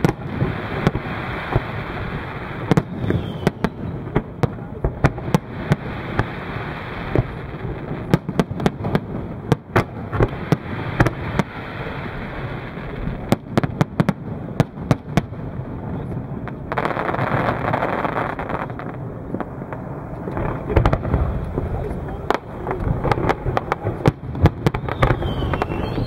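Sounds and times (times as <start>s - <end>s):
firework hiss: 0.0s - 26.0s.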